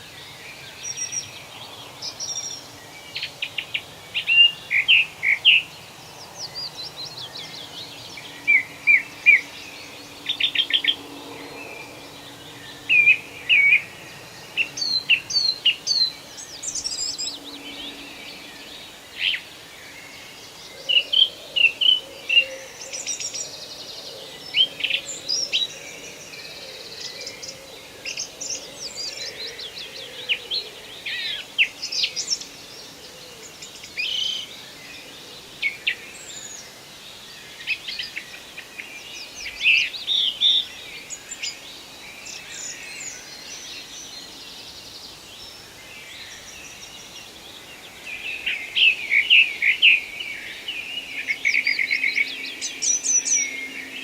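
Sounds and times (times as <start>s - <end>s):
faint steady background noise: 0.0s - 54.0s
songbirds chirping and singing: 0.0s - 54.0s.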